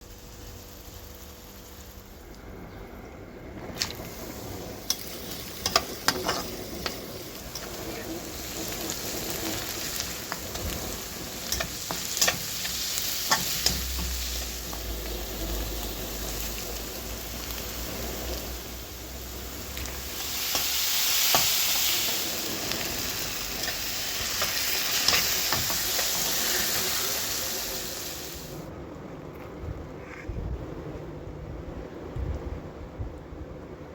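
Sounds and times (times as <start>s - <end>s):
vegetables sizzling in oil: 0.0s - 2.5s, 3.6s - 28.7s.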